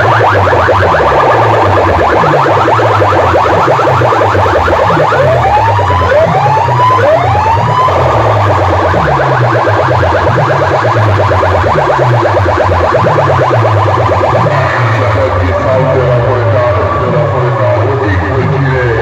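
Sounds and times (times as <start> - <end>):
siren-like sweeps: 0.0 - 18.9
loud distorted electronic music: 0.0 - 19.0.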